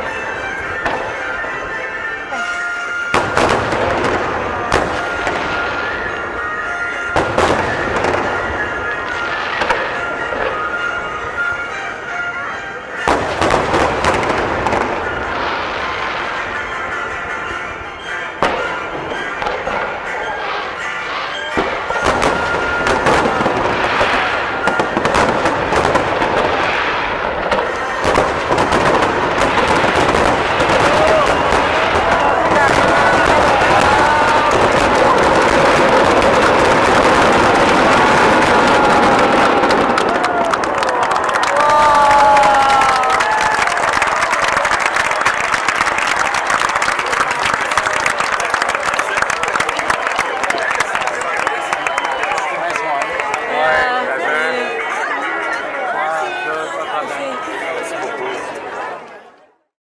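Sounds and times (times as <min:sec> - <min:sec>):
fireworks bangs: 0:00.0 - 0:55.6
music playing: 0:00.0 - 0:59.0
fireworks crackling: 0:00.0 - 0:59.2.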